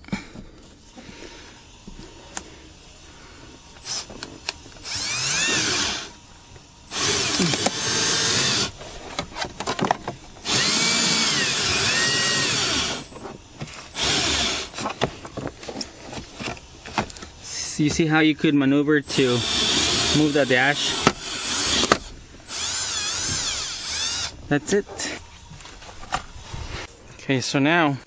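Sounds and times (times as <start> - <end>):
power tool whining: 1.6 - 17.4, 19.0 - 26.9.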